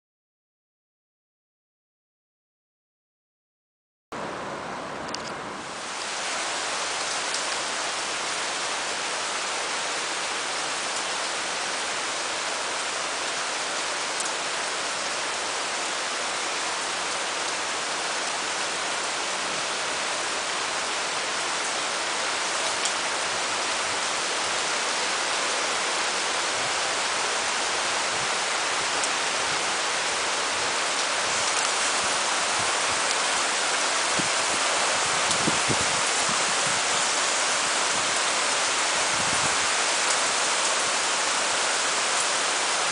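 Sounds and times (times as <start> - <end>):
heavy rain falling: 4.2 - 42.9.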